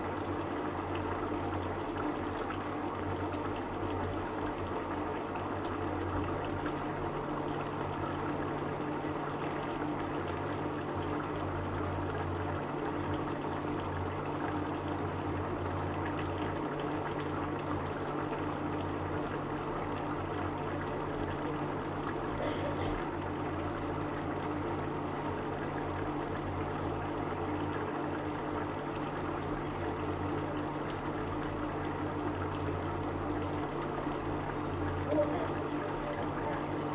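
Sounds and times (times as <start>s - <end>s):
curry simmering in a pot: 0.0s - 36.9s.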